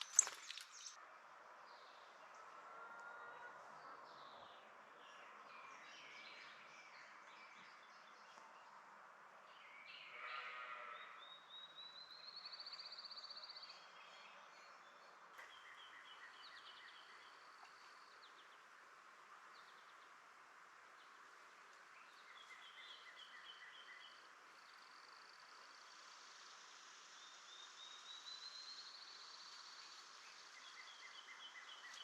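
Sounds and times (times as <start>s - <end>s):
wild birdsong and calls: 0.0s - 32.0s.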